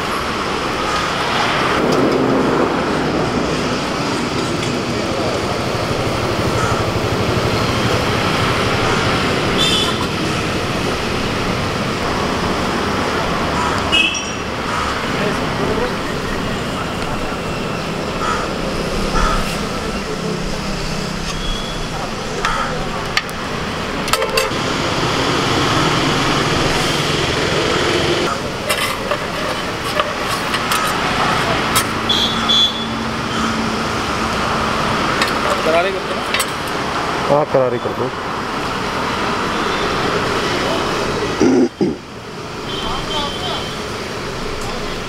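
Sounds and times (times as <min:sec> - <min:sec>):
steady noisy rumble: 0:00.0 - 0:21.2, 0:21.9 - 0:45.0
street traffic: 0:00.0 - 0:45.0.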